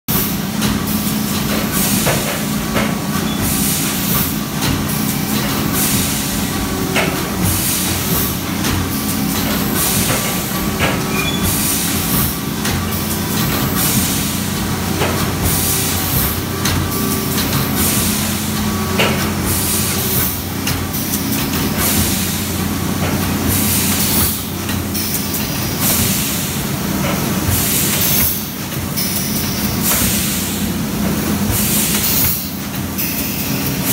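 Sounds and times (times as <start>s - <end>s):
machine hiss: 0.1s - 33.9s.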